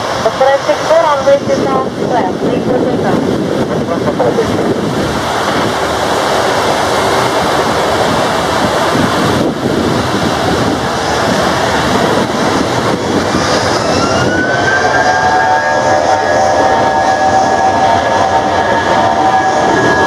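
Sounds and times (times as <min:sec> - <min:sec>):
heavy rain hiss: 0:00.0 - 0:20.0
jet engines spooling up: 0:00.0 - 0:20.0
rising engine whine: 0:03.6 - 0:20.0.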